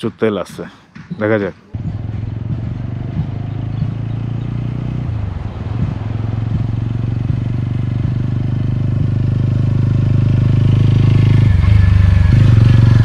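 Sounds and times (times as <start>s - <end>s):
motorcycle engine running: 1.7s - 13.0s.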